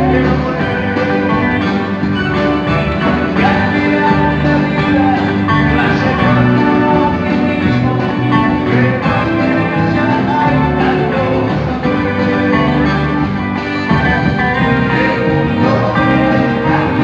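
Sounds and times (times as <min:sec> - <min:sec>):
electric guitar melody: 0:00.0 - 0:17.0
live band music: 0:00.0 - 0:17.0.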